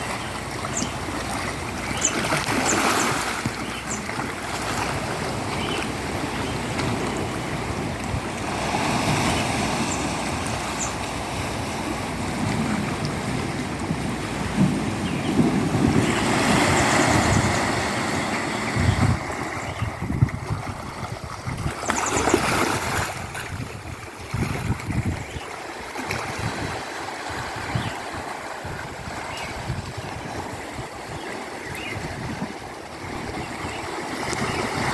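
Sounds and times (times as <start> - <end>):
sea water splashing: 0.0 - 34.9
wind buffeting microphone: 0.0 - 34.9.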